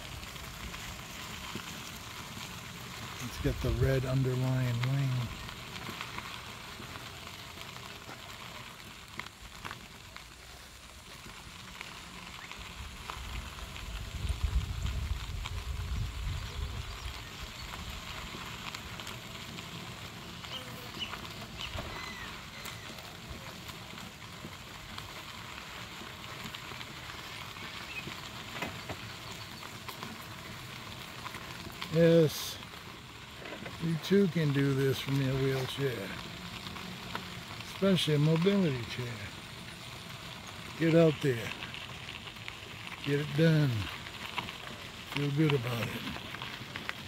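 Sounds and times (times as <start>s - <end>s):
tyres rolling over gravel: 0.0s - 47.0s.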